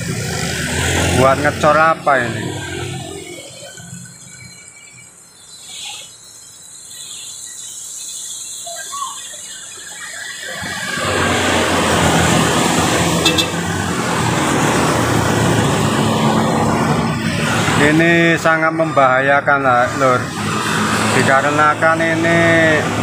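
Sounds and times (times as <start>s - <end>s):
motor scooter passing: 0.0s - 4.8s, 9.3s - 23.0s
car passing: 0.0s - 5.0s, 9.5s - 23.0s.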